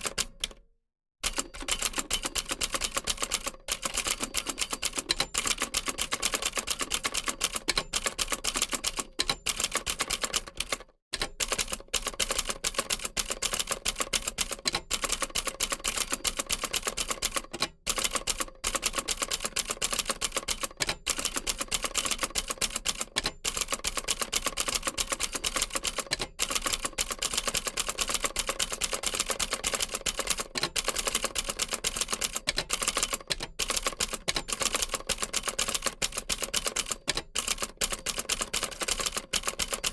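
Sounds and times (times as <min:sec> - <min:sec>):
manual typewriter typing: 0:00.0 - 0:00.6, 0:01.2 - 0:39.9.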